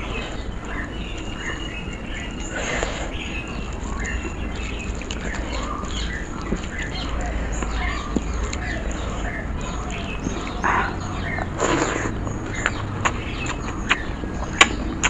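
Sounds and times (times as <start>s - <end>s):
fingers squishing wet rice: 0.0s - 15.0s
small birds chirping: 0.0s - 15.0s.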